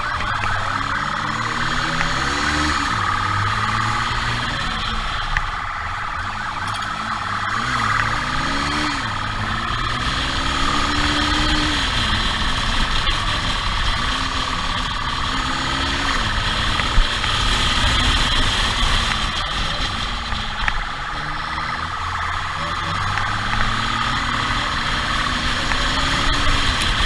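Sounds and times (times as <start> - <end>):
motorcycle engine at speed: 0.0 - 27.0
road and wind noise: 0.0 - 27.0.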